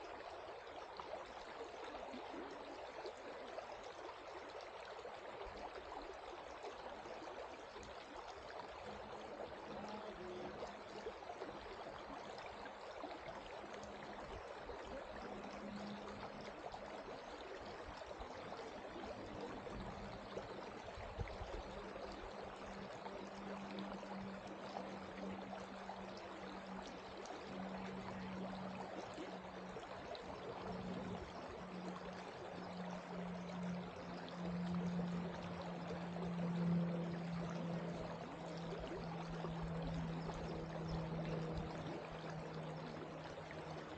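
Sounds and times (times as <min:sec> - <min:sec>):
low steady hum: 0:00.0 - 0:43.9
river water babbling over rocks: 0:00.0 - 0:43.9.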